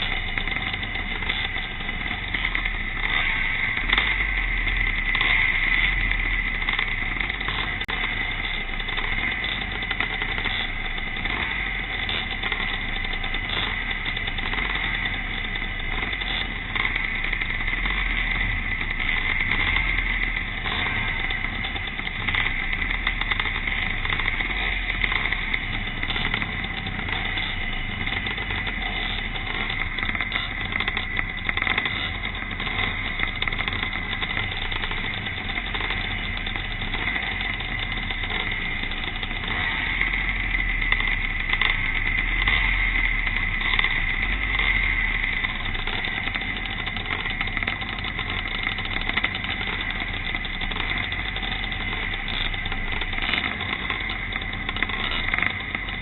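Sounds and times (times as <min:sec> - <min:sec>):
motorcycles racing: 0:00.0 - 0:56.0.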